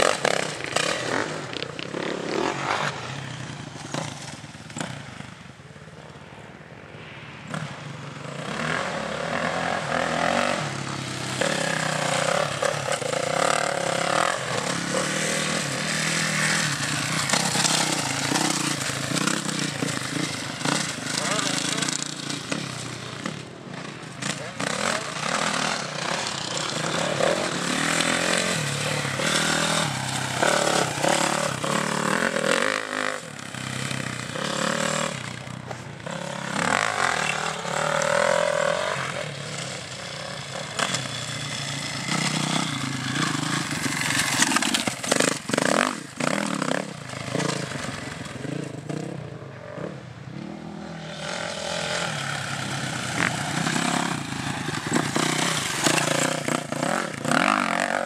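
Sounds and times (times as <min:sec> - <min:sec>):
motocross bikes revving: 0:00.0 - 0:06.2, 0:07.5 - 0:58.0.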